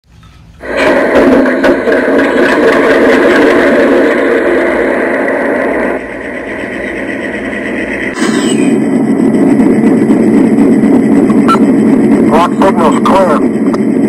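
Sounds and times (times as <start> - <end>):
diesel locomotive engine idling: 0.1 - 14.0.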